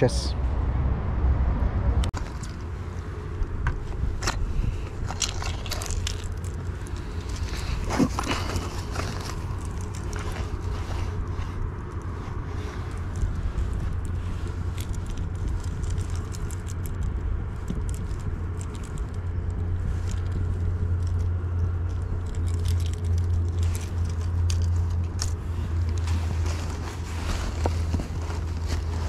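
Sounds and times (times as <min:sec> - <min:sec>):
steady low hum: 0:00.0 - 0:29.0
hands handling fishing tackle: 0:02.2 - 0:29.0.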